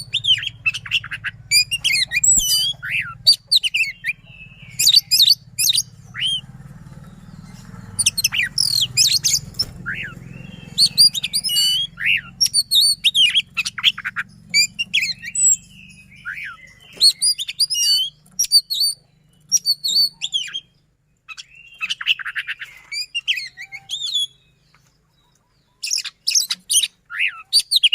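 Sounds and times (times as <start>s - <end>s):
bird singing whistled song: 0.0s - 24.8s, 25.6s - 27.9s.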